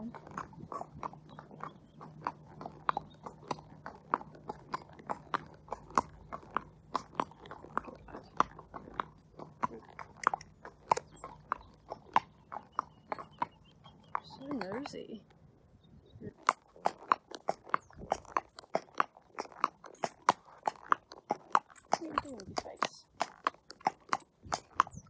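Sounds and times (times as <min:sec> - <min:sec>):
horse hooves on wet tarmac: 0:00.0 - 0:15.1, 0:16.3 - 0:25.0.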